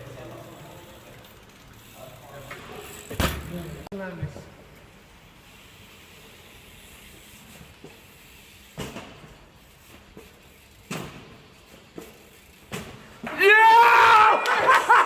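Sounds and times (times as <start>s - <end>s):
bike clattering on concrete: 0.0s - 4.9s, 7.0s - 14.8s.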